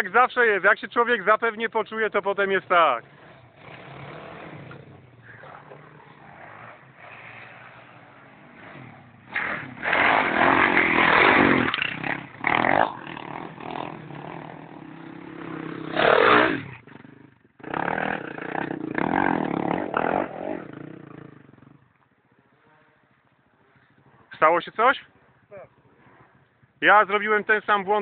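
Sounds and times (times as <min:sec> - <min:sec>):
motorcycle engine revving: 0:02.2 - 0:28.0.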